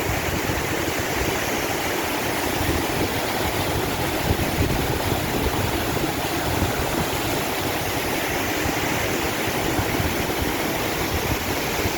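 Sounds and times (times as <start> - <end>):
rushing water: 0.0 - 11.9.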